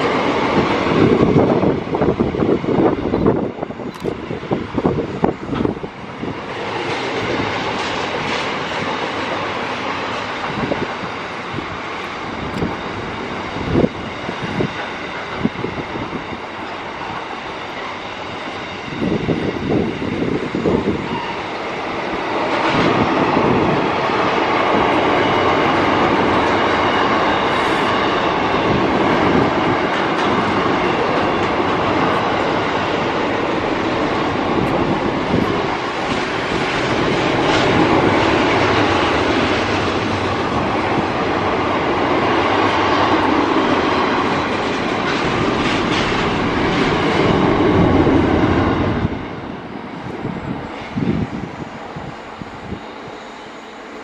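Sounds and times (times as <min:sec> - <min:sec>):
train wheels clattering over rails: 0:00.0 - 0:51.6.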